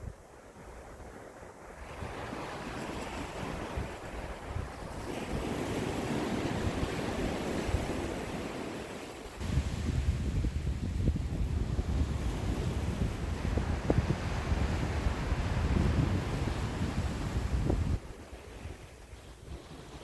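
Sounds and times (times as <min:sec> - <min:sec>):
ocean waves washing ashore: 0:00.0 - 0:20.0
wind rumble on microphone: 0:00.0 - 0:20.0.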